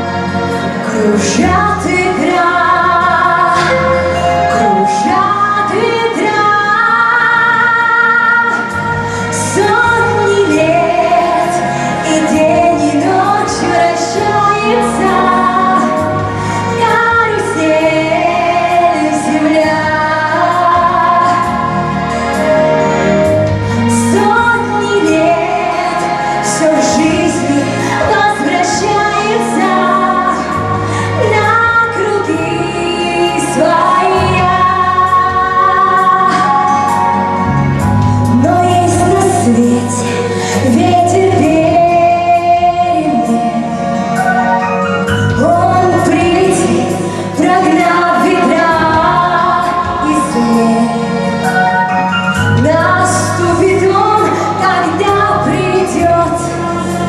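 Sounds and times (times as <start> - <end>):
instrumental backing: 0.0 - 57.0.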